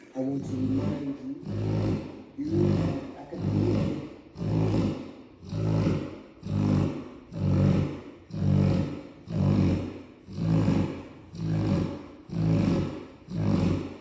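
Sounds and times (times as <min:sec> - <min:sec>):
dog snoring heavily: 0:00.0 - 0:14.0.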